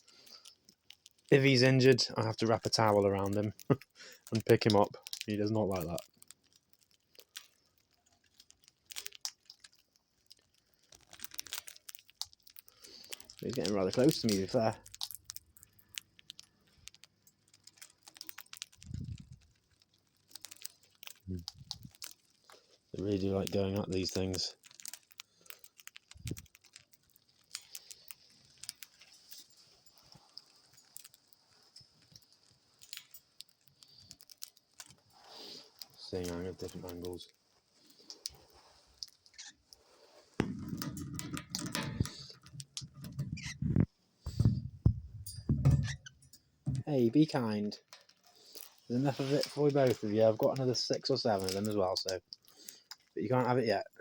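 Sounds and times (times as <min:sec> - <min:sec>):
birds pecking seeds: 0:00.0 - 0:53.7
rustling: 0:00.0 - 0:53.9.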